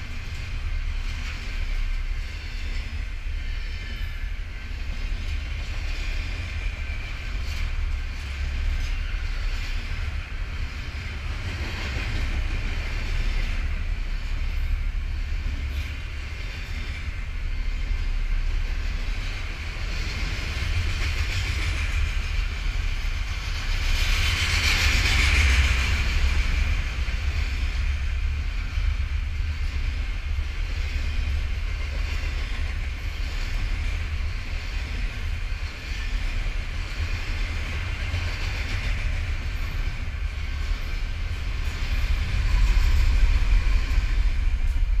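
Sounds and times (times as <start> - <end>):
diesel locomotive passing: 0.0 - 45.0
freight train wheels clattering: 0.0 - 45.0.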